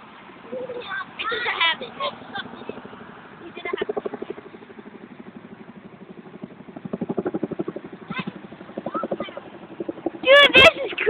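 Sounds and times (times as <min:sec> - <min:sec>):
helicopter rotor blades beating: 0:00.0 - 0:11.0.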